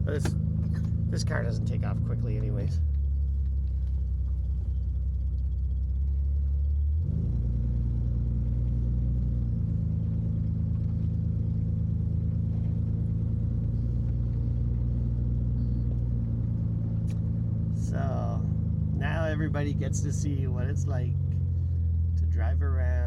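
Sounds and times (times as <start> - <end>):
car engine humming from inside: 0.0 - 23.0.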